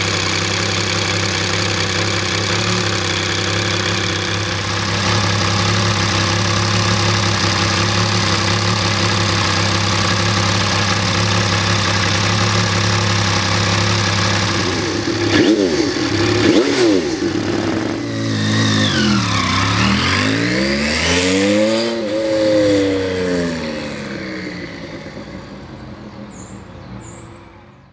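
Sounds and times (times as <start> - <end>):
motorcycle pulling away: 0.0 - 27.5
motorcycle engine revving: 0.0 - 27.8
motorcycle engine idling: 0.0 - 27.9.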